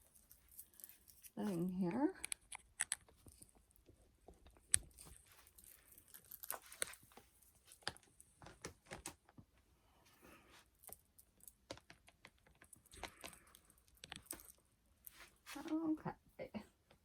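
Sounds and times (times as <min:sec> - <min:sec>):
rustling and crinkling: 0:00.0 - 0:17.0.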